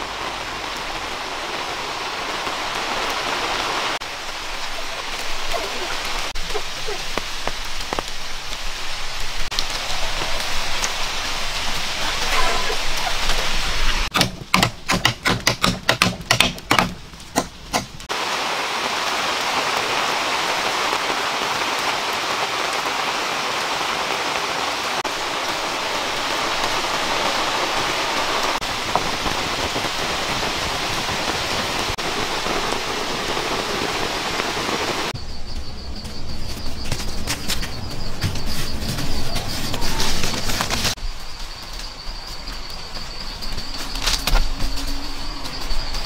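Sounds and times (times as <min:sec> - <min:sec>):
rain hiss: 0:00.0 - 0:14.1, 0:16.9 - 0:46.0.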